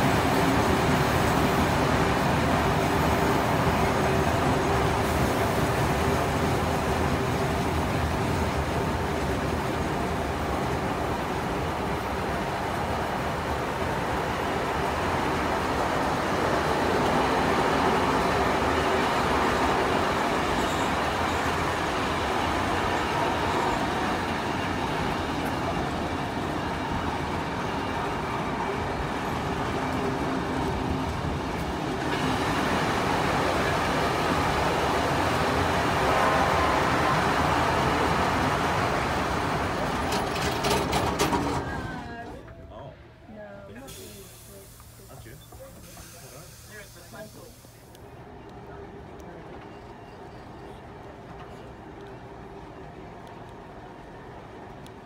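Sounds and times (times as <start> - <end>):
train wheels on rails: 0.0 - 42.6, 43.4 - 55.0.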